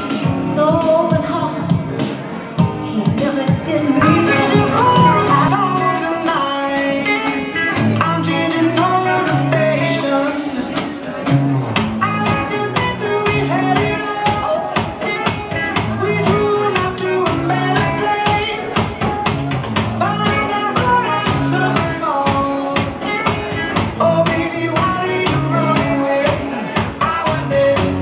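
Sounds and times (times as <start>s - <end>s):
upbeat rock music: 0.0s - 28.0s.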